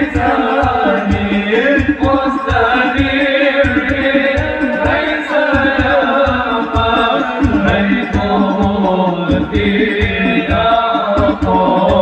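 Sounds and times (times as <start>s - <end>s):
group singing devotional songs: 0.0s - 12.0s
steady drum beat: 0.0s - 12.0s.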